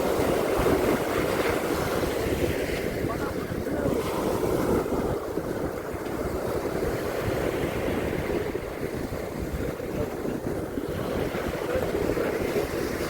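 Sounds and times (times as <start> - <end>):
sea surf washing on beach: 0.0 - 13.0
wind rumbling on microphone: 0.0 - 13.0.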